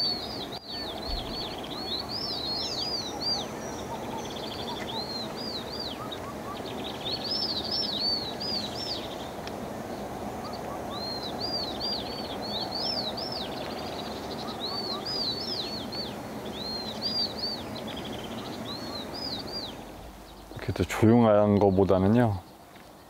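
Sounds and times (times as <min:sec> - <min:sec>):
low background noise: 0:00.0 - 0:23.0
songbird chirping: 0:00.0 - 0:23.0.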